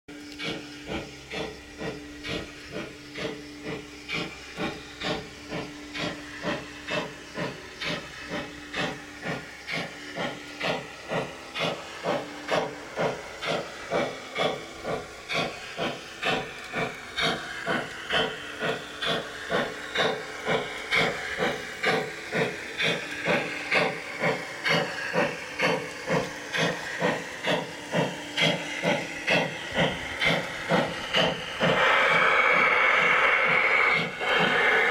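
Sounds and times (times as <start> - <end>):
model steam locomotive chuffing: 0.1 - 34.9
steady hum: 0.1 - 34.9.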